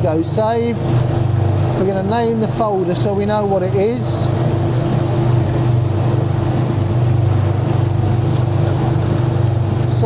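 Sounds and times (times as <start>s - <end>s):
outboard engine idling: 0.0s - 10.0s.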